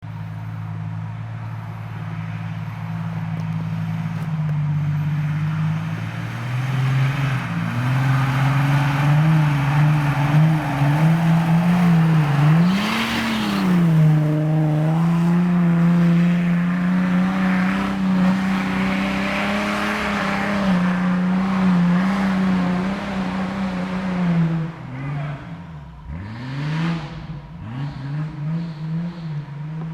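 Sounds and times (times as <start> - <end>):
engine revving under heavy load: 5.1 - 29.9.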